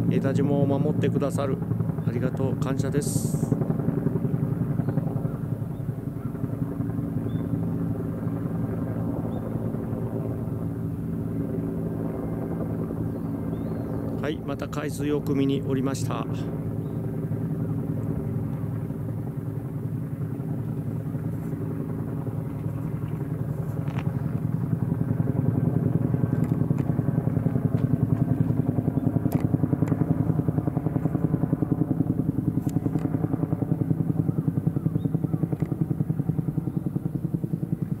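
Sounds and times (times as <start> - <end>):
helicopter rotor beating: 0.0 - 38.0.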